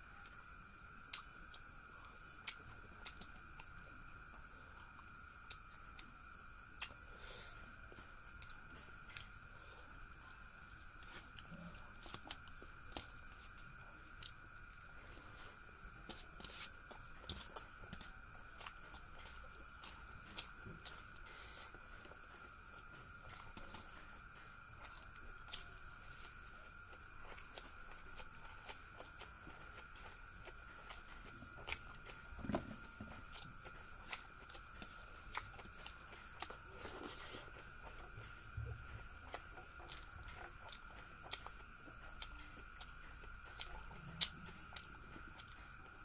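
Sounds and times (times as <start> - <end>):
chewing: 0.1 - 46.0.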